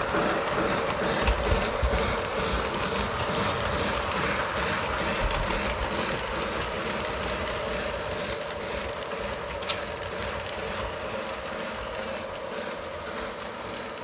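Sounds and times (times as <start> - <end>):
model train motor hum: 0.0 - 14.0.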